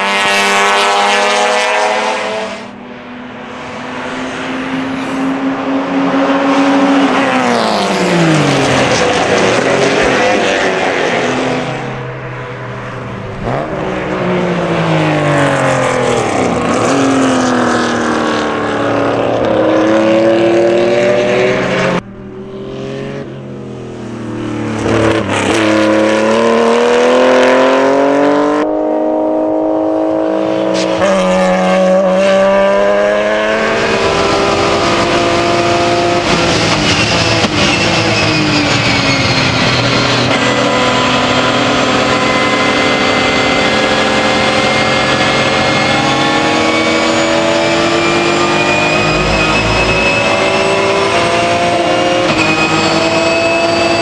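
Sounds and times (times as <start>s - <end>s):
race cars passing at speed: 0.0s - 54.0s.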